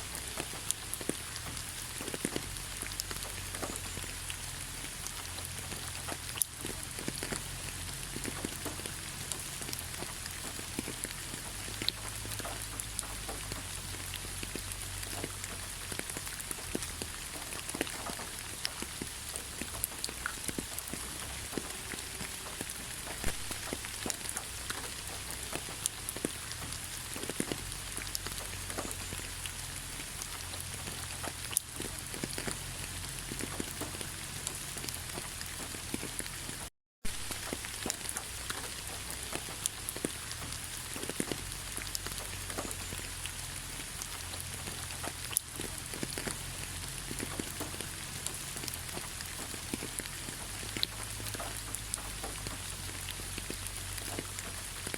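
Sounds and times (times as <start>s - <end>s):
raindrops tapping: 0.0s - 54.9s
steady rain: 0.0s - 54.9s.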